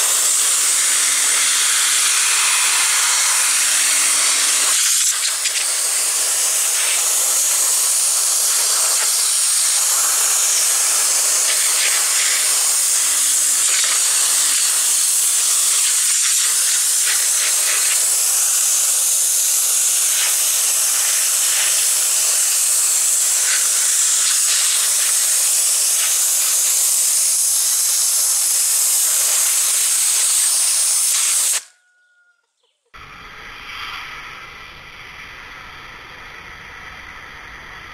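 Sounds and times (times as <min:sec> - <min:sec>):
pressure washer spray hissing: 0:00.0 - 0:31.7.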